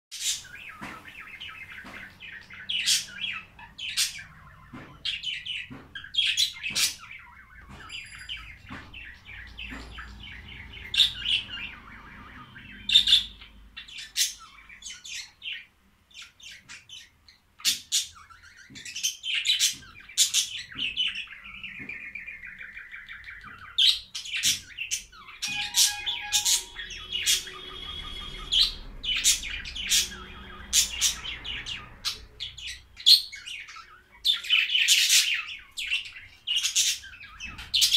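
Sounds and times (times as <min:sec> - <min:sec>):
budgerigars chattering: 0:00.2 - 0:07.8, 0:08.4 - 0:37.9.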